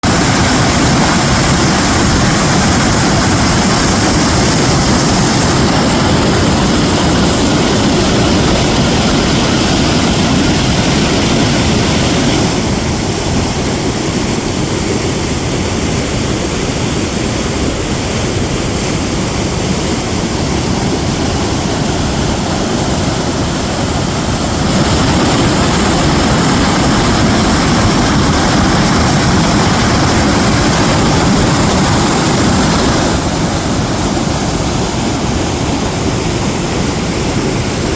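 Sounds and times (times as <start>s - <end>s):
rushing stream water: 0.0s - 37.9s.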